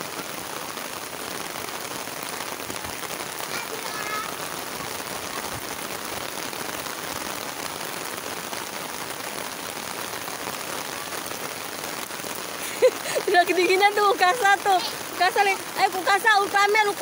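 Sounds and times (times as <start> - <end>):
light rain on concrete: 0.0 - 17.0.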